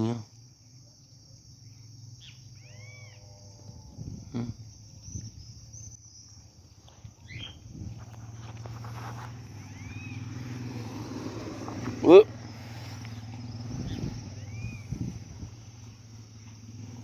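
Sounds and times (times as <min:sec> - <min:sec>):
high-pitched insect drone: 0:00.0 - 0:17.0
birds chirping: 0:00.4 - 0:03.4, 0:04.5 - 0:17.0.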